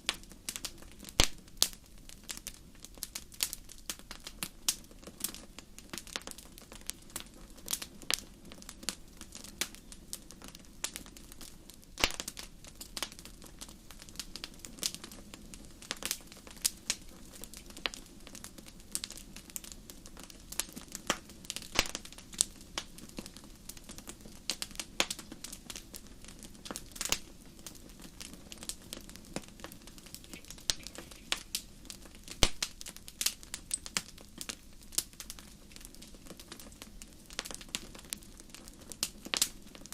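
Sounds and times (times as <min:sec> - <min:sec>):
faint low background noise: 0:00.0 - 0:39.9
wood fire crackling: 0:00.0 - 0:39.9.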